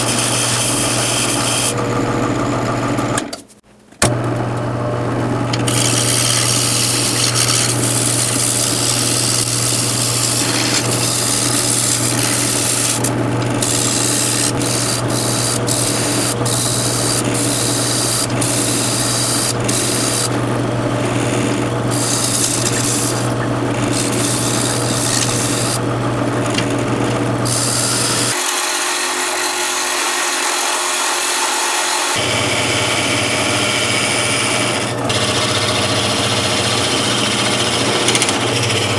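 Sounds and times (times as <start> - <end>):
lathe motor hum: 0.0 - 3.2, 4.2 - 38.9
tool scraping spinning wood: 0.0 - 3.2, 5.5 - 38.9.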